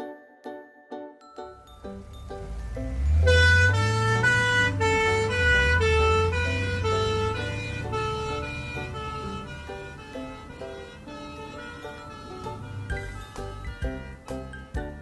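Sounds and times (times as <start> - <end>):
engine rumble: 1.6 - 15.0
two-tone ambulance siren: 1.8 - 14.0.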